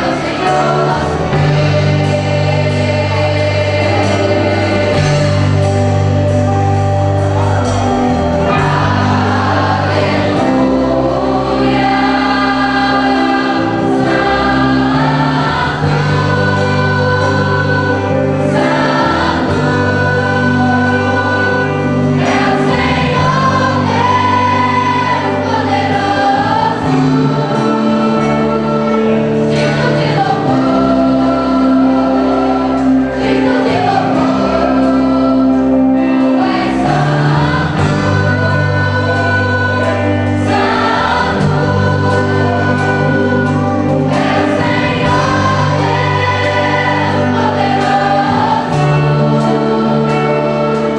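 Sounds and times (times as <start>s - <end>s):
bass line: 0.0s - 50.9s
choir singing gospel: 0.0s - 50.9s.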